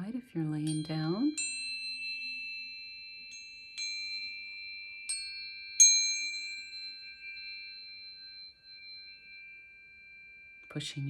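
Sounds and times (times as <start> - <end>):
tuning forks ringing: 0.7 - 11.0.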